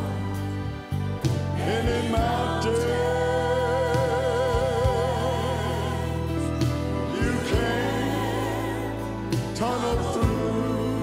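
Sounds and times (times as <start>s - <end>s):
bass and keyboards: 0.0s - 11.0s
vocal group singing gospel: 0.0s - 11.0s.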